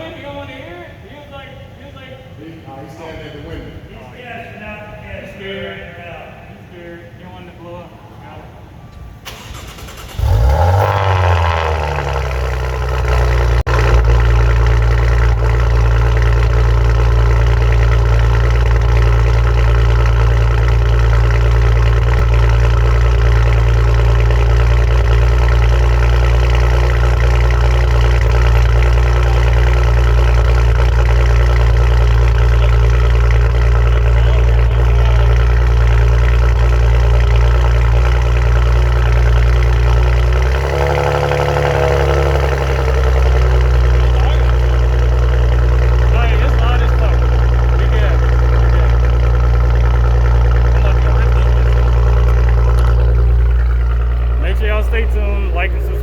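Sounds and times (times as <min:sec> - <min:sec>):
car exhaust idling loudly: 0:09.3 - 0:56.0.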